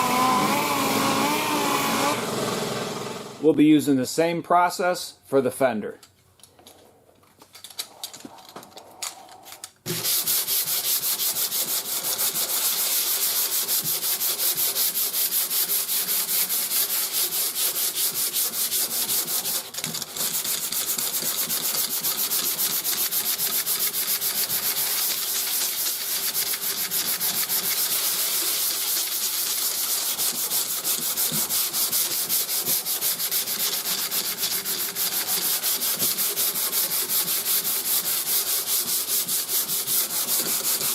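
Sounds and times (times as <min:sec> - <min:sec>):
sandpaper sanding: 0:00.1 - 0:02.2, 0:09.9 - 0:40.9.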